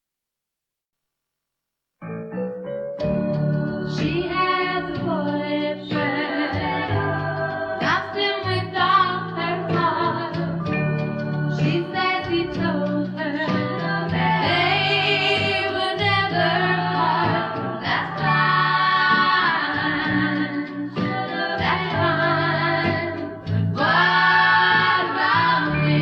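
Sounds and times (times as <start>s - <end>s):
steady bass line: 3.0s - 26.0s
women singing in harmony: 3.1s - 26.0s.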